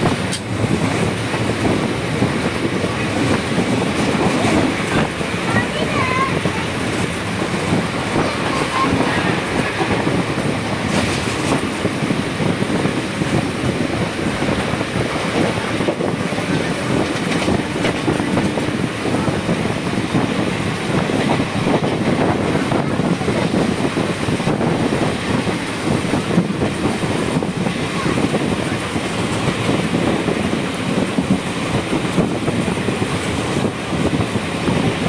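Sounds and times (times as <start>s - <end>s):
train wheels rushing on rails: 0.0s - 35.0s.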